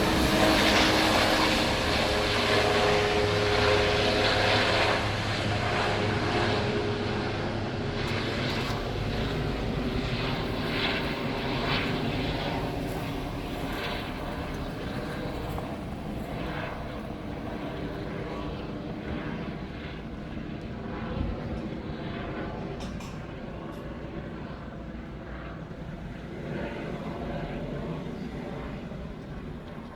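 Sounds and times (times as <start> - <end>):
helicopter turbines and rotor: 0.0 - 29.9.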